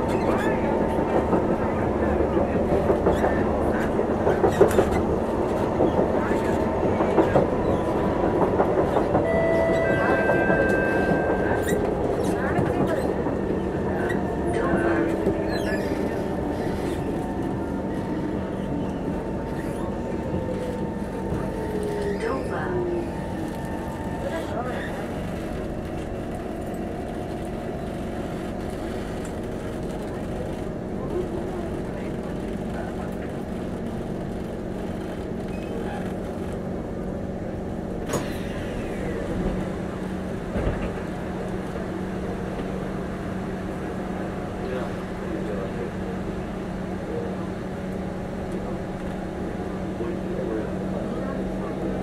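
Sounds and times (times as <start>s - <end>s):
train hum: 0.0s - 52.0s
train wheels rumbling on track: 0.0s - 52.0s.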